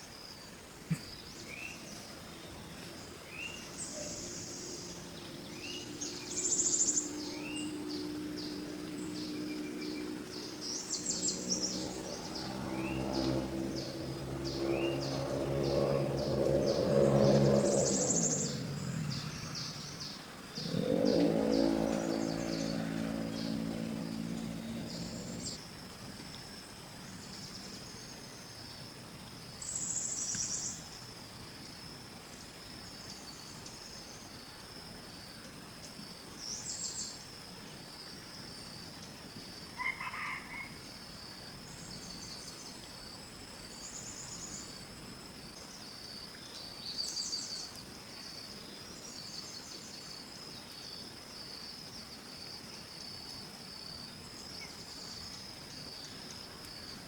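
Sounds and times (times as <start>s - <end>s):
short lower insect call: 0.0s - 25.7s, 26.3s - 57.0s
insects chirring: 0.0s - 57.0s.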